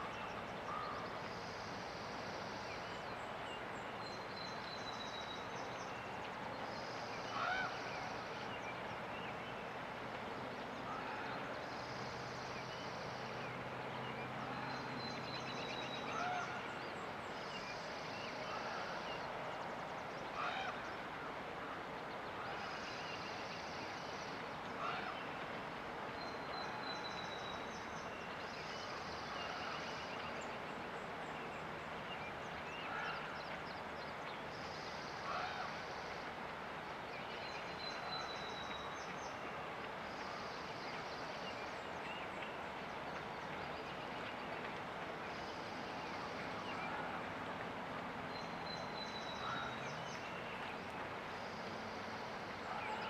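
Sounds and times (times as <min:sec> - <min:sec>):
river water rushing: 0:00.0 - 0:53.0
songbirds singing: 0:00.0 - 0:53.0.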